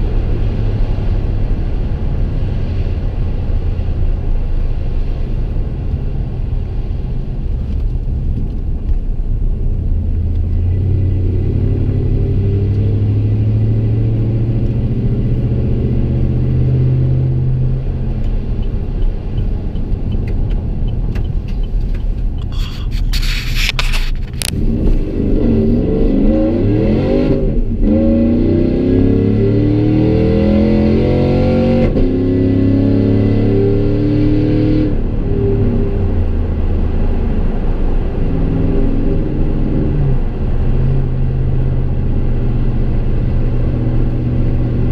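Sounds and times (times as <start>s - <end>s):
car exhaust drone: 0.0s - 44.9s
truck accelerating: 0.0s - 44.9s.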